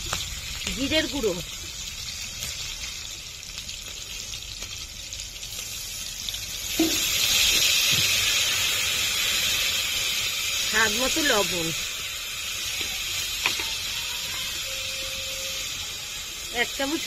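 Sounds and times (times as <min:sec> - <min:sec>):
spices sizzling in oil: 0:00.0 - 0:17.0.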